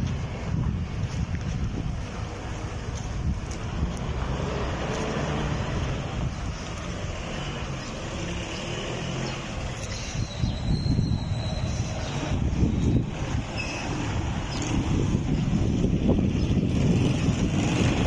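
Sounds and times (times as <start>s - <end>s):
bus diesel engine running: 0.0s - 18.0s
wind buffeting microphone: 0.0s - 18.0s.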